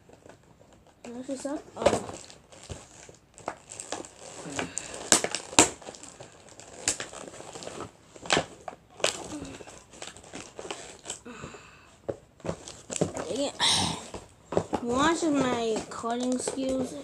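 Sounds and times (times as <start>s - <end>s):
packaging crinkling: 0.0s - 17.0s
scissors cutting packaging: 1.0s - 11.2s, 12.4s - 17.0s.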